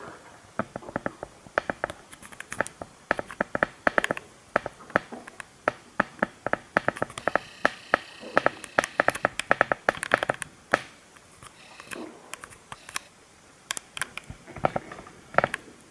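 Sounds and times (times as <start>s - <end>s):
sharp clicks and taps: 0.6s - 13.1s, 13.7s - 15.6s.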